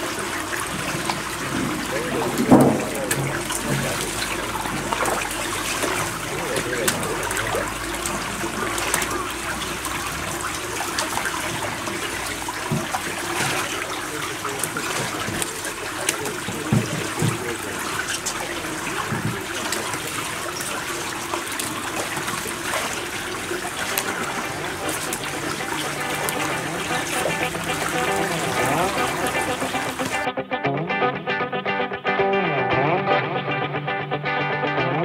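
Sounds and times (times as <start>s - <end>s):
water trickling over rocks: 0.0s - 30.3s.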